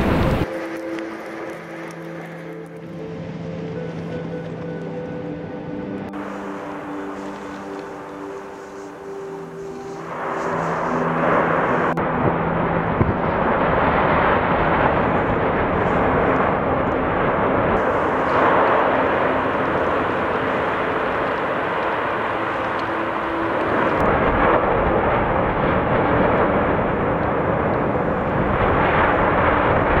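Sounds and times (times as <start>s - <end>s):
deep rumble: 0.0s - 0.5s, 3.0s - 30.0s
volcanic eruption rushing: 0.0s - 4.6s, 6.1s - 30.0s.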